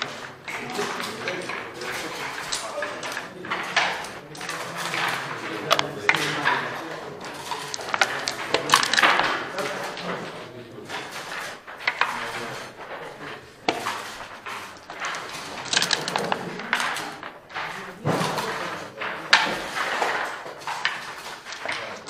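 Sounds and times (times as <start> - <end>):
dice rattle: 0.0 - 6.6, 7.2 - 10.1, 10.9 - 22.0
dice and checkers clacking on board: 0.0 - 22.0.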